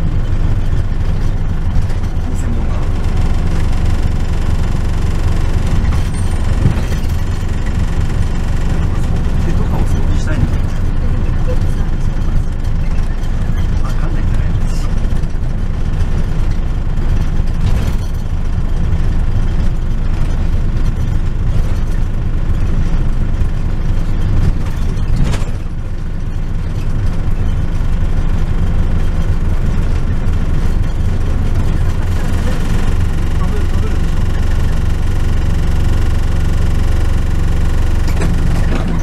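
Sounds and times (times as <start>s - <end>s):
minibus engine running: 0.0s - 39.0s
road noise: 0.0s - 39.0s.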